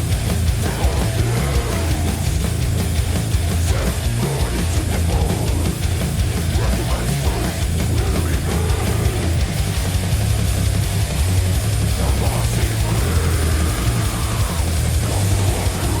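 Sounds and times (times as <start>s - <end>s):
distorted guitar music: 0.0s - 16.0s
heavy metal drumming: 0.0s - 16.0s.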